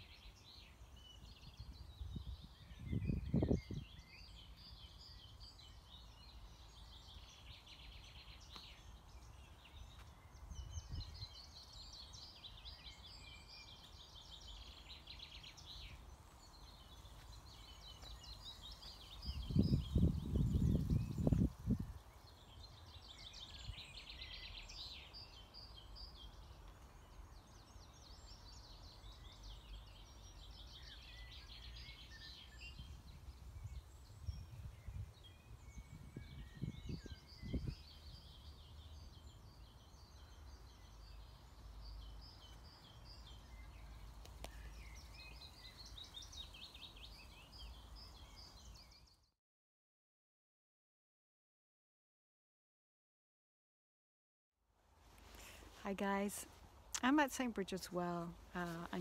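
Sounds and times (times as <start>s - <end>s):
songbirds singing: 0.0s - 49.4s, 55.0s - 59.0s.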